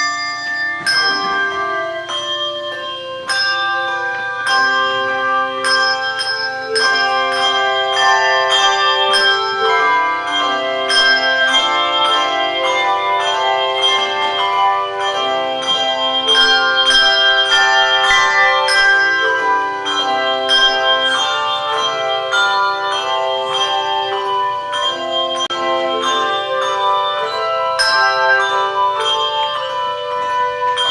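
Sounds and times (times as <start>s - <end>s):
handbell choir playing: 0.0s - 30.9s.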